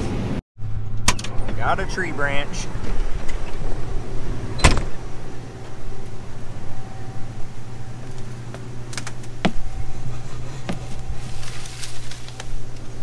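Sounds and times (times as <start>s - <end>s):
combine cab low hum: 0.0s - 13.0s.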